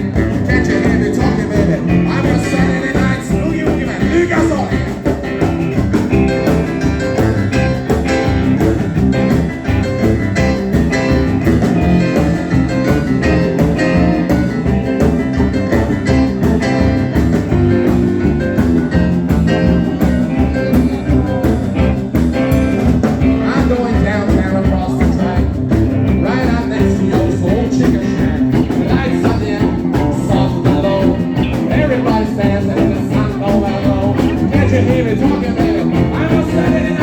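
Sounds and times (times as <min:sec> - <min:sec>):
rock and roll band playing: 0:00.0 - 0:37.0.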